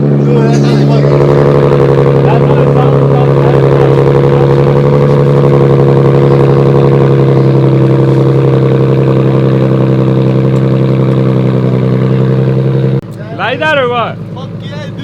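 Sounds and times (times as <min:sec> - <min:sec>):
car engine droning steadily: 0:00.0 - 0:15.0.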